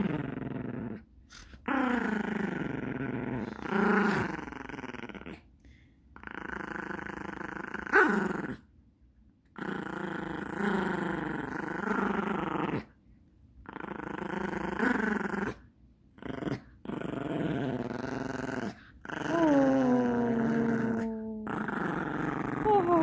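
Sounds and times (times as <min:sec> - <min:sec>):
dog growling playfully: 0:00.0 - 0:05.5, 0:06.2 - 0:08.7, 0:09.5 - 0:13.0, 0:13.6 - 0:23.0.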